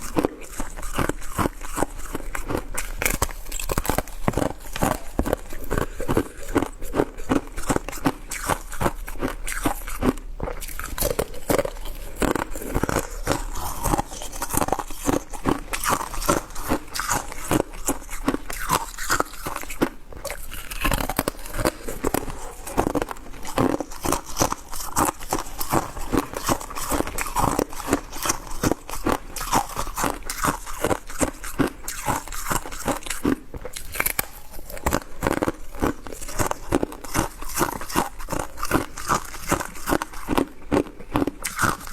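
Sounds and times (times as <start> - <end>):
person chewing crunchy ice: 0.0 - 41.9.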